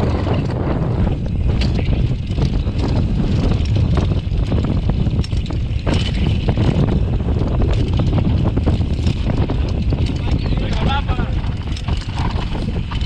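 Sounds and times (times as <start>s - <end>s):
bike clicks and rattles: 0.0s - 13.0s
bike tyre noise: 0.0s - 13.0s
wind rumble on microphone: 0.0s - 13.0s.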